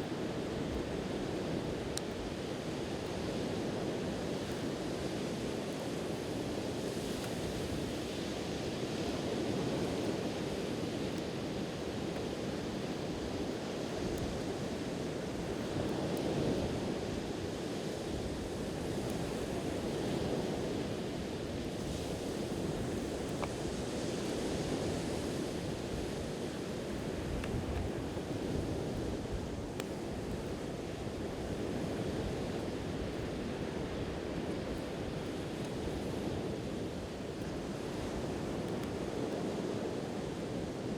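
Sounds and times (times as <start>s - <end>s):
campfire crackles: 0.0s - 40.9s
sea surf on the shore: 0.0s - 40.9s.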